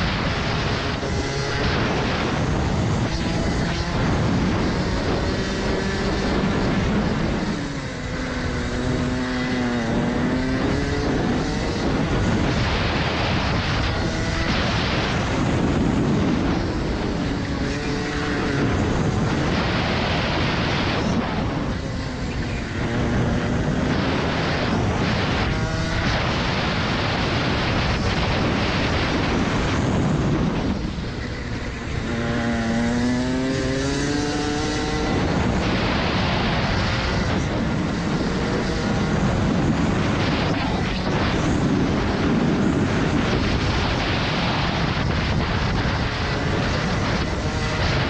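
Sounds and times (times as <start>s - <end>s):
kart engine racing: 0.0s - 48.0s
wind rush on microphone: 0.0s - 48.0s.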